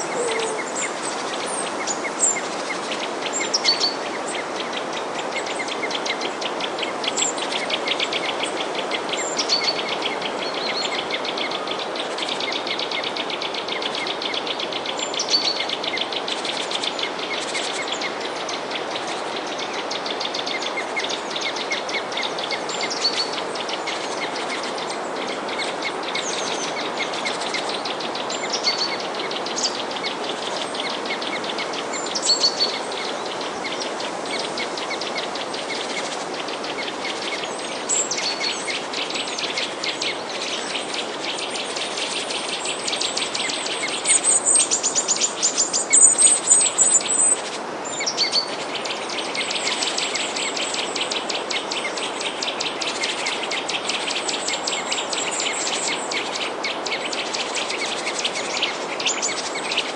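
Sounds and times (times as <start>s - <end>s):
songbirds chirping: 0.0s - 59.9s
steady rushing hiss: 0.0s - 59.9s.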